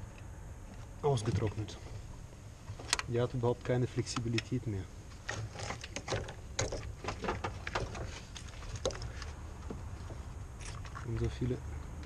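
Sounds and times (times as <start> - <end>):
steady low hum: 0.0 - 12.0
wiring crackling and scraping: 0.0 - 12.0.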